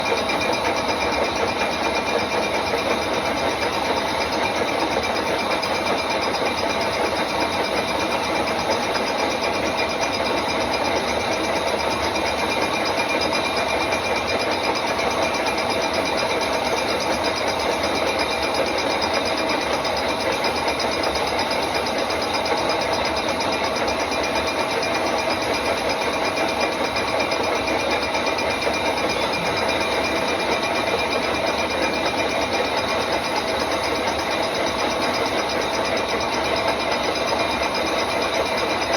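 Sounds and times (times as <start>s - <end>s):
milling machine whining: 0.0s - 38.9s.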